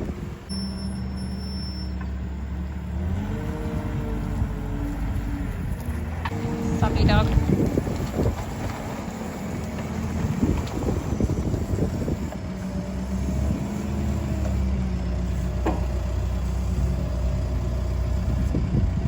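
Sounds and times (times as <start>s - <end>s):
wind buffeting microphone: 0.0s - 0.5s, 3.4s - 16.0s, 16.7s - 19.0s
engine idling: 0.0s - 19.0s.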